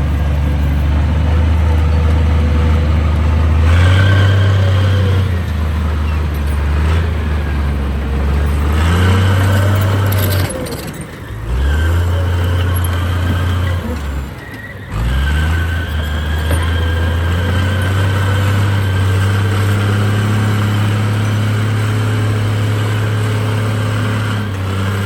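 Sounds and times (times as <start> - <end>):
heavy diesel engine revving: 0.0 - 25.0.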